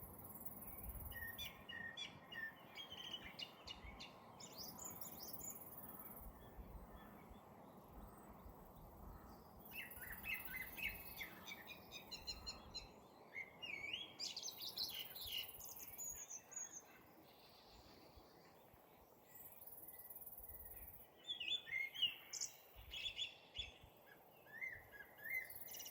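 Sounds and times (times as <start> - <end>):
low background hiss: 0.0 - 25.9
songbird chirps and trills: 0.0 - 25.9.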